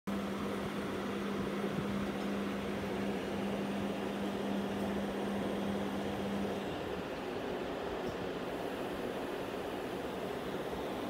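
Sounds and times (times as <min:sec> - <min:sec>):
aquarium equipment humming: 0:00.1 - 0:11.0.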